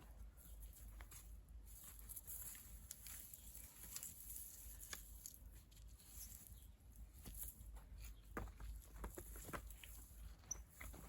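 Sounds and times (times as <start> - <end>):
soft ticks and rustles: 0.0 - 11.0.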